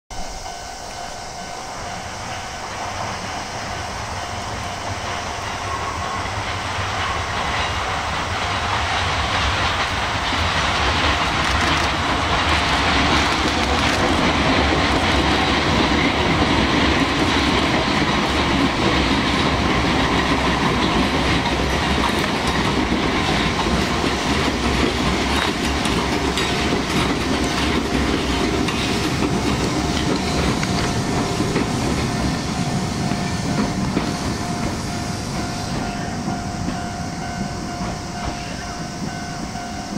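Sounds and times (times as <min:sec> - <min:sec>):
electric train running past: 0:00.1 - 0:39.9.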